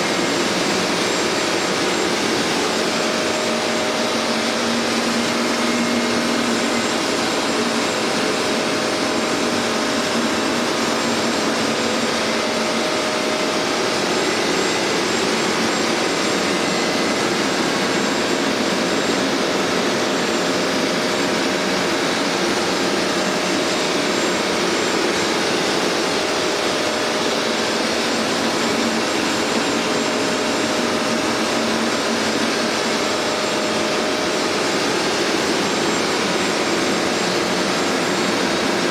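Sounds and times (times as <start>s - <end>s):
carpet cleaner running: 0.0s - 38.9s.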